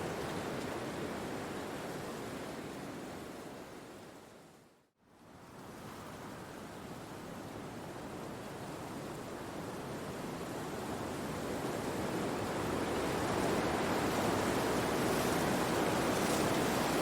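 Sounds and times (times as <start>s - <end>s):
wind through trees: 0.0s - 17.0s.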